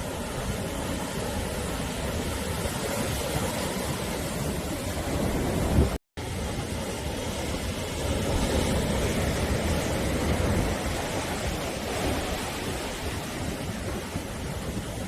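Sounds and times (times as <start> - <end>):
waves breaking on shore: 0.0 - 15.0.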